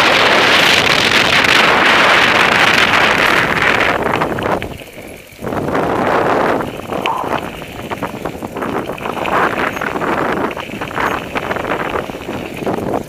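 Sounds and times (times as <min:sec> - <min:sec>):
bike crunching and rattling on dirt: 0:00.0 - 0:13.0
wind buffeting microphone: 0:00.0 - 0:13.0.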